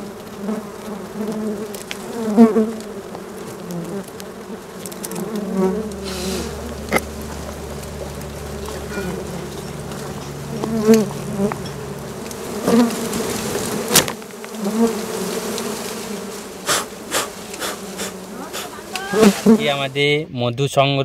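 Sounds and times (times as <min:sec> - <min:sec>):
bee droning close past: 0:00.0 - 0:20.2
bees buzzing: 0:00.0 - 0:20.2
honeycomb snapping: 0:00.1 - 0:19.6.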